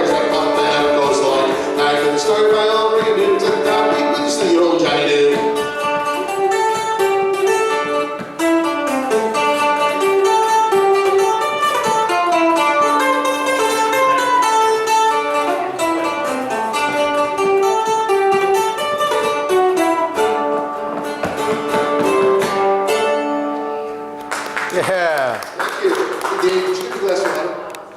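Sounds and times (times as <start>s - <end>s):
guitar picking notes: 0.0s - 24.9s.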